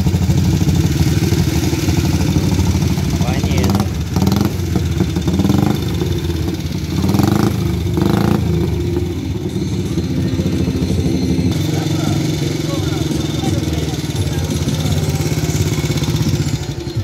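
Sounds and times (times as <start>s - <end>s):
vintage vehicle engine revving: 0.0s - 17.0s.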